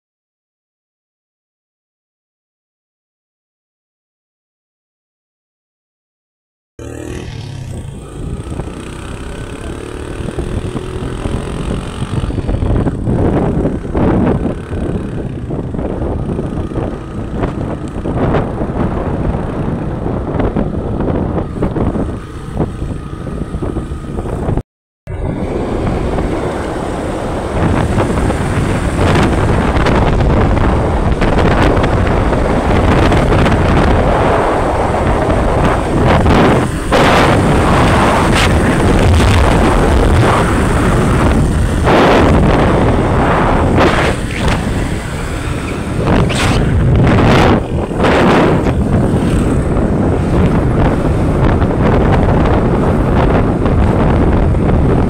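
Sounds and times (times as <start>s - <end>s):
motorcycle engine running: 6.8s - 55.0s
wind buffeting microphone: 7.5s - 55.0s.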